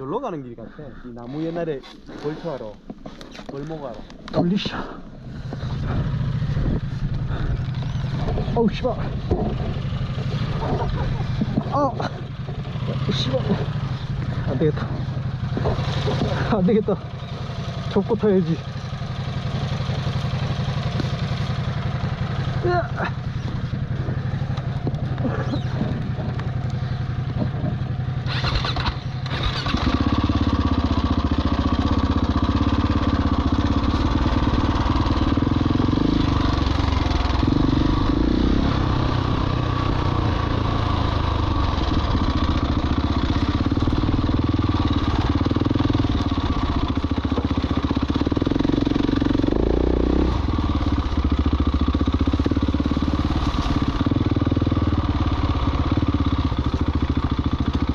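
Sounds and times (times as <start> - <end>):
motorcycle engine revving: 3.4 - 57.9.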